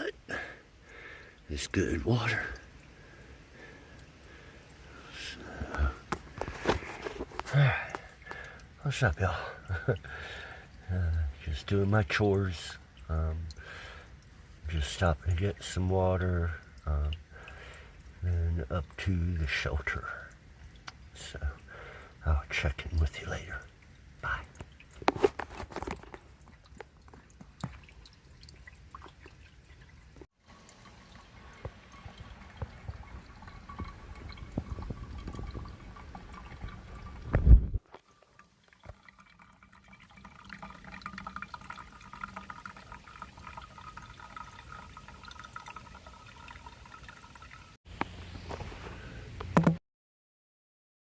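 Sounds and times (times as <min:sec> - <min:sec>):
water trickling and dripping: 0:00.0 - 0:49.6.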